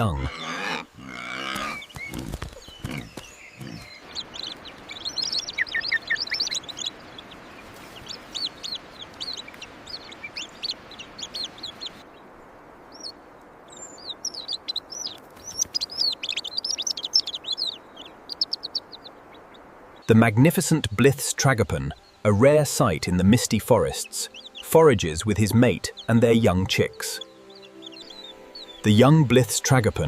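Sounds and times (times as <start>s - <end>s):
small birds chirping: 0.0s - 30.0s
steady background hiss: 1.8s - 30.0s.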